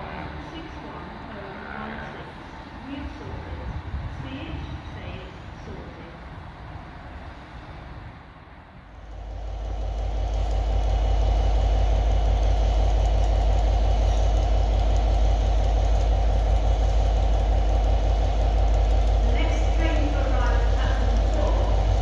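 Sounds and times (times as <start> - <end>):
train diesel engines throbbing: 0.0 - 22.0.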